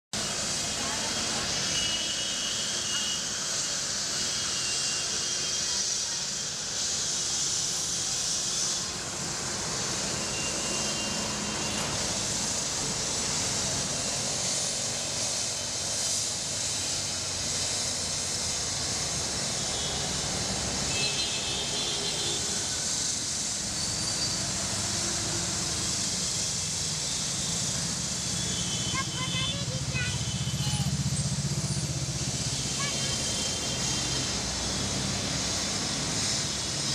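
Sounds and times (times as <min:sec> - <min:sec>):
passing vehicles hissing: 0:00.2 - 0:36.9.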